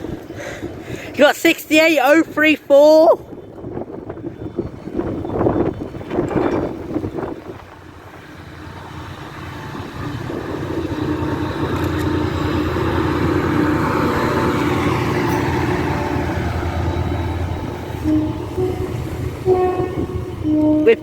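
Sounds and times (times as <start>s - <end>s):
diesel locomotive engine: 0.0s - 21.0s
rail and wheel noise: 0.0s - 21.0s.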